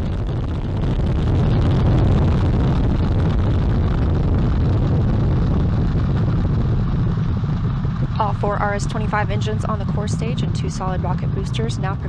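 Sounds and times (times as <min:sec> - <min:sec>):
rocket engines deep rumble: 0:00.0 - 0:12.0.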